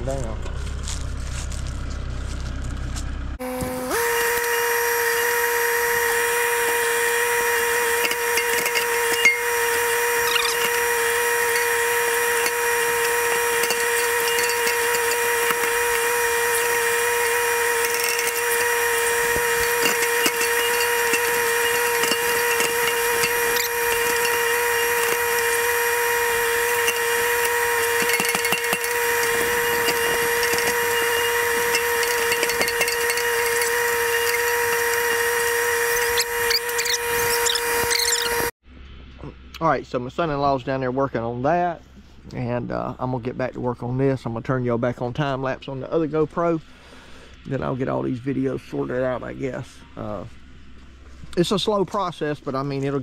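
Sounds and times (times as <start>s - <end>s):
diesel engine and hydraulics whine: 0.0s - 53.0s.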